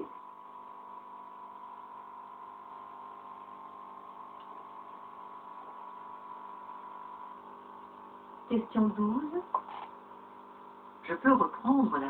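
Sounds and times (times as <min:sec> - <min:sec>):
television electrical hum: 0:00.0 - 0:12.0.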